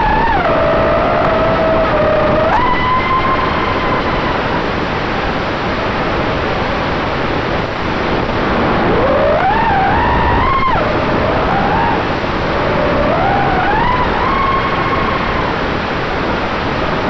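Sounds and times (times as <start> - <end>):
drone motor whine: 0.0 - 17.0
wind noise on microphone: 0.0 - 17.0.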